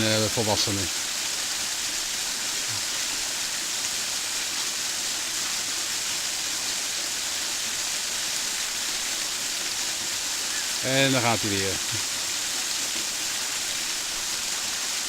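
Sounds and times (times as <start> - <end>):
waterfall splashing on rock: 0.0 - 15.0.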